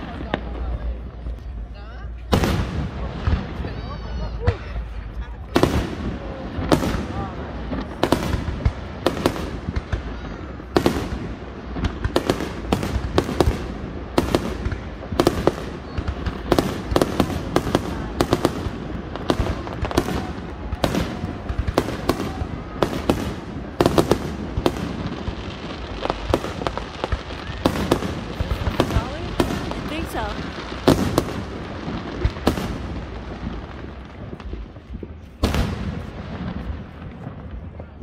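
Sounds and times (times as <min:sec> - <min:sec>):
fireworks booming: 0:00.0 - 0:38.0.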